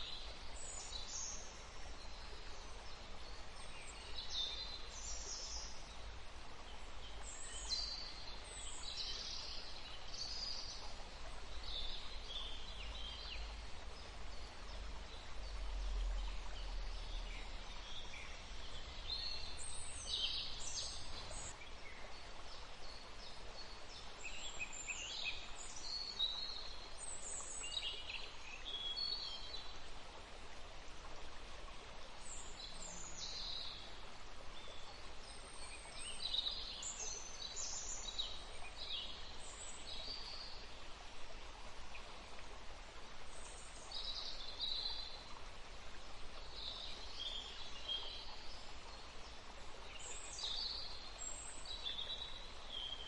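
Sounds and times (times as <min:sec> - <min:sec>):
songbirds chirping: 0:00.0 - 0:53.0
steady background hiss: 0:00.0 - 0:53.0.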